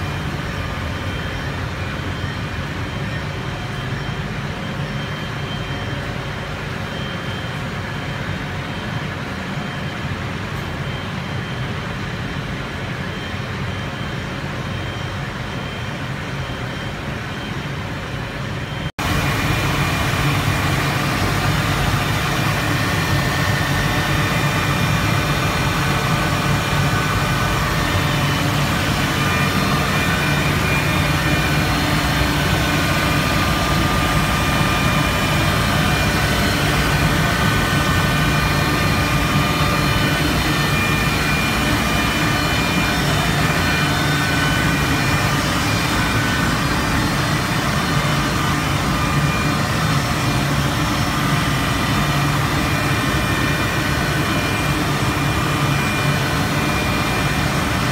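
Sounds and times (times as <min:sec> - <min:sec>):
faint high whines: 0:00.0 - 0:57.9
loud machinery roar: 0:00.0 - 0:57.9.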